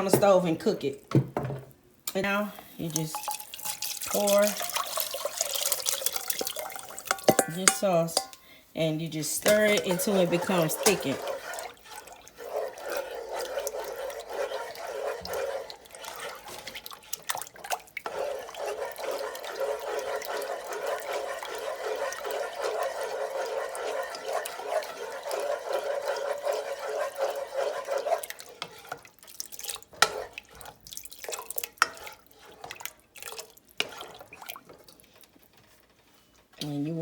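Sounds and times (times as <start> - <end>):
sauce stirred in a pot: 2.0 - 36.8.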